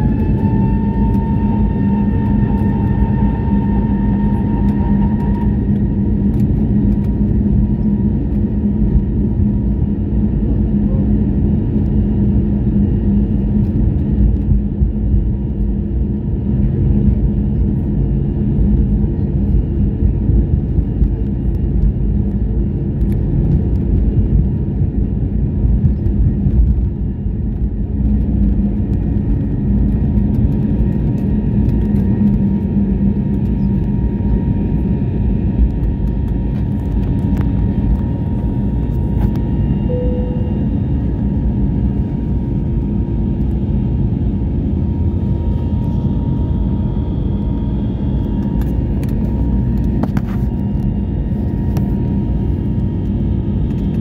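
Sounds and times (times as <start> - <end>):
faint engine whine: 0.0 - 54.0
jet engines rumbling in cabin: 0.0 - 54.0.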